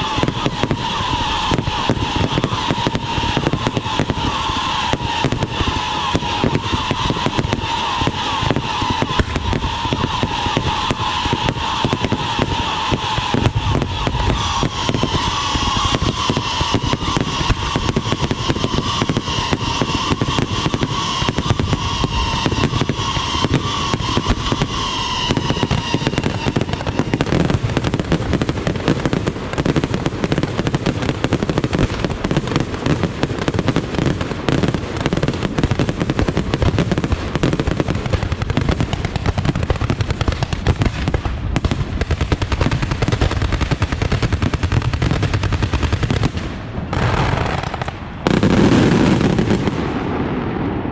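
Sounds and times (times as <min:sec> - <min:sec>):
firecrackers banging and crackling: 0:00.0 - 0:50.8.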